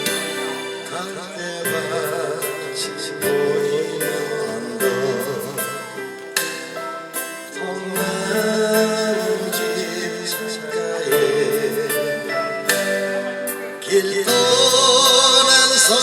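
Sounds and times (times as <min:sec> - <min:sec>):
slow instrumental ballad: 0:00.0 - 0:16.0.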